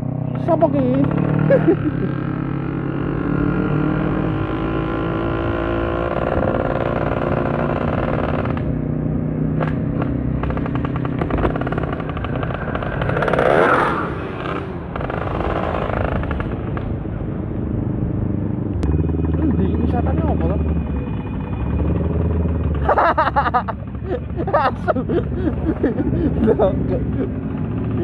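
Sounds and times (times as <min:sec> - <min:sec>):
motorcycle engine running: 0:00.0 - 0:17.1, 0:18.1 - 0:28.0.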